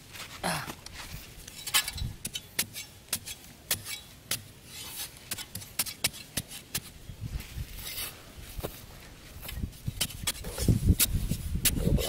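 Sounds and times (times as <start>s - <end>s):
hands scraping sandy soil and stones: 0.0s - 12.0s.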